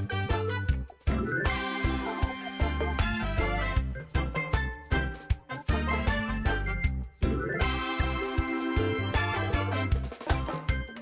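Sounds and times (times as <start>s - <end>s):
upbeat music with bass and beat: 0.0s - 11.0s.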